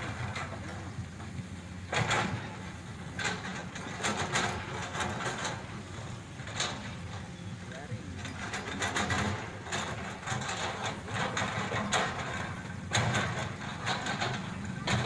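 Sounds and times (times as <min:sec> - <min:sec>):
excavator diesel engine running: 0:00.0 - 0:15.0
metal knocks and clanks: 0:00.0 - 0:15.0.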